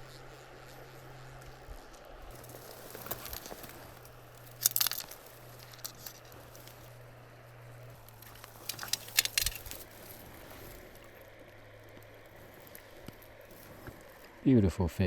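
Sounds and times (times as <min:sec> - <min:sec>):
crinkling crackling rustle: 0:00.0 - 0:14.5
faint steady hum: 0:00.0 - 0:15.0.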